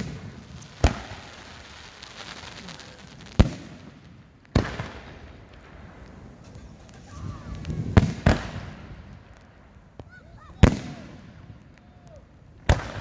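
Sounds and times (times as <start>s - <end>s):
firework shells bursting: 0.0s - 11.7s.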